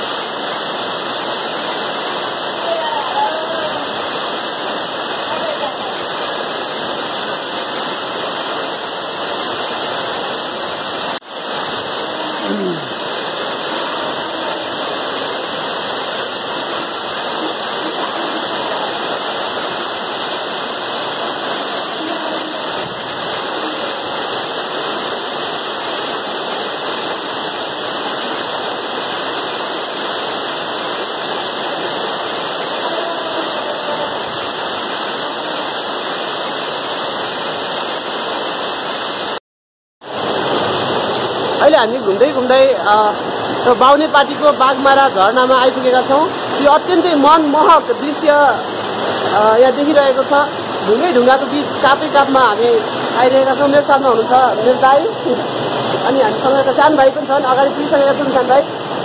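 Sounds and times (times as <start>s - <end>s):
waterfall rushing: 0.0s - 39.4s, 40.0s - 59.0s.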